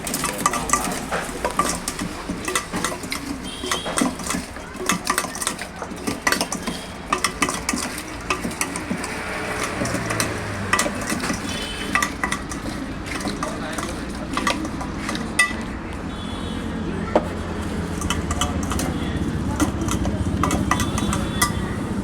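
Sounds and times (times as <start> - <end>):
metal utensils clinking on cookware: 0.0 - 16.2, 17.1 - 22.0.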